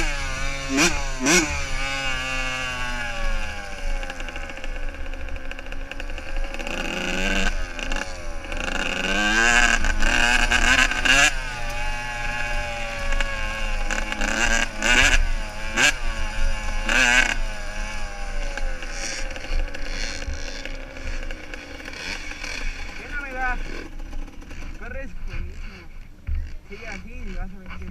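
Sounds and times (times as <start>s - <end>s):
motocross bike engines revving: 0.0s - 27.9s.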